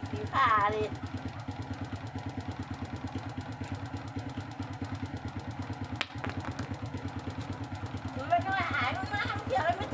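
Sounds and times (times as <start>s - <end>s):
motorcycle engine idling: 0.0s - 9.9s.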